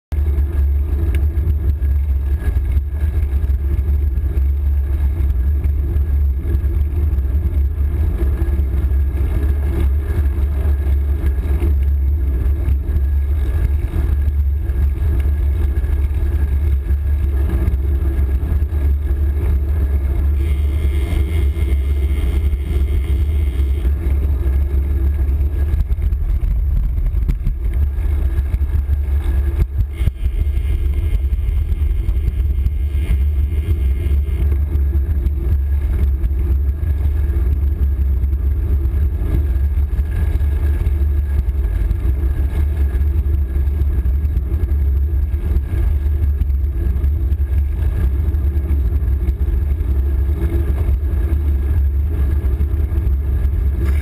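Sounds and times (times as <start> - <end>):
wind rumbling on microphone: 0.1 - 54.0.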